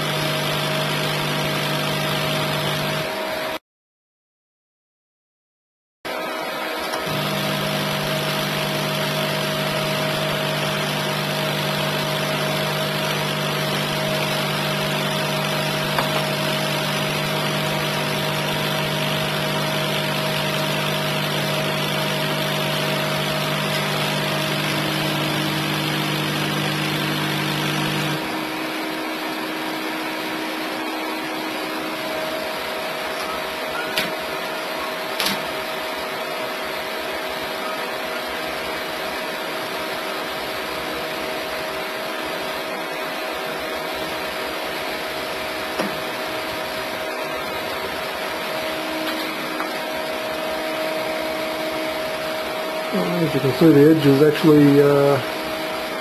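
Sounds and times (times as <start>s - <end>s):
laser cutter machine hum: 0.0s - 3.5s, 6.1s - 56.0s.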